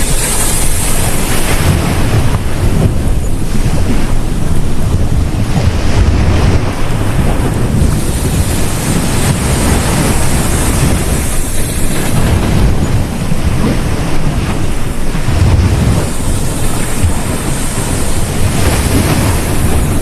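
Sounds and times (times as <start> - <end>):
sea waves breaking on beach: 0.0 - 20.0
wind buffeting microphone: 0.0 - 20.0.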